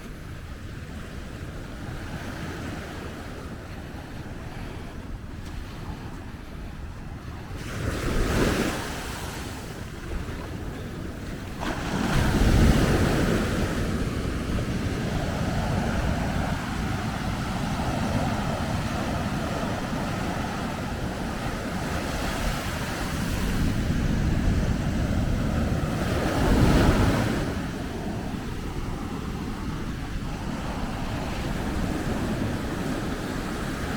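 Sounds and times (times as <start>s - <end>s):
ocean waves breaking: 0.0s - 33.9s
wind on microphone: 0.0s - 33.9s.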